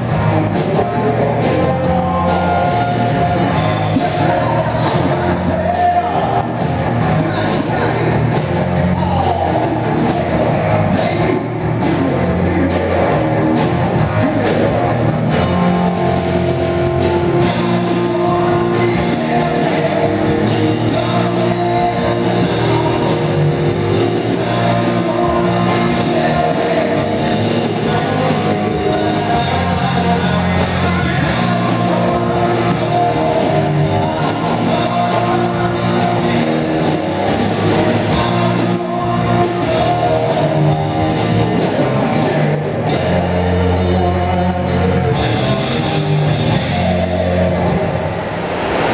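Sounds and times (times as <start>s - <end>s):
bass guitar: 0.0s - 48.9s
distorted electric guitar: 0.0s - 48.9s
drum kit: 0.0s - 48.9s.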